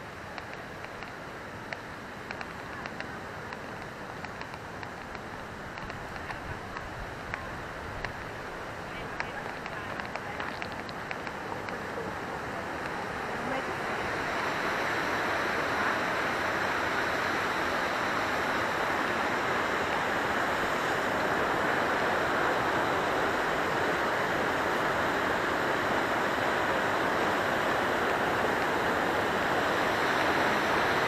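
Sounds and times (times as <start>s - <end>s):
rushing stream water: 0.0s - 31.0s.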